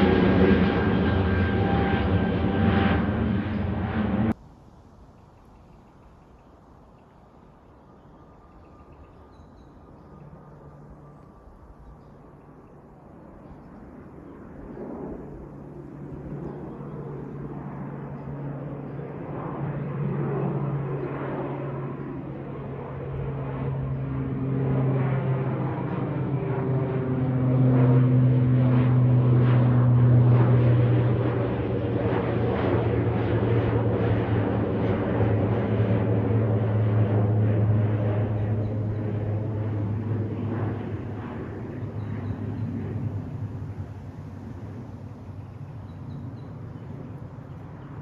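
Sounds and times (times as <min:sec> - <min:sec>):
airliner taking off: 0:00.0 - 0:04.4, 0:10.2 - 0:48.0.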